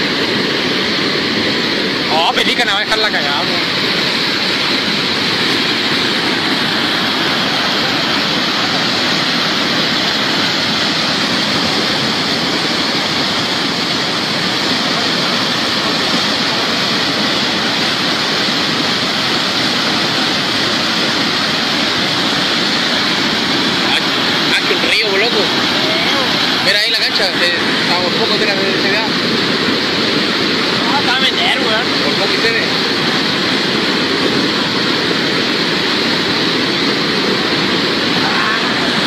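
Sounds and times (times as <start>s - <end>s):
flood water rushing: 0.0s - 39.0s.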